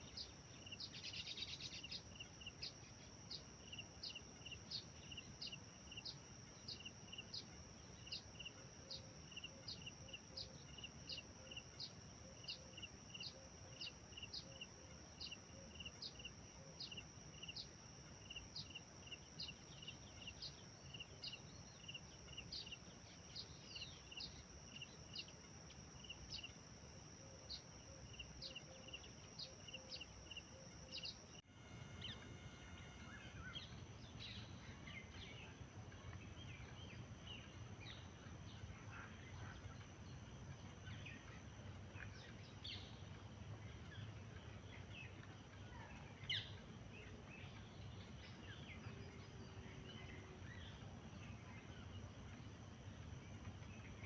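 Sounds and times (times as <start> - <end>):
high-pitched whine: 0.0 - 54.0
varied bird chirps: 0.0 - 54.0.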